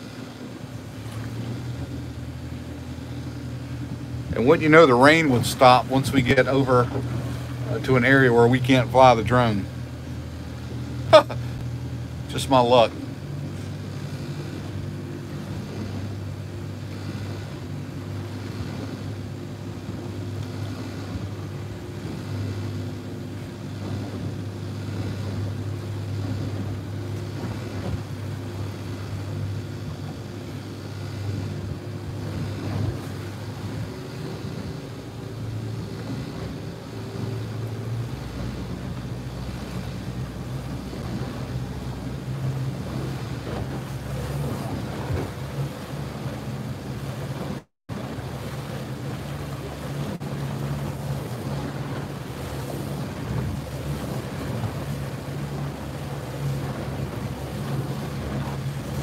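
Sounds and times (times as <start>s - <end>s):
boat engine running: 0.0s - 59.0s
water noise: 0.0s - 59.0s
wind: 0.0s - 59.0s.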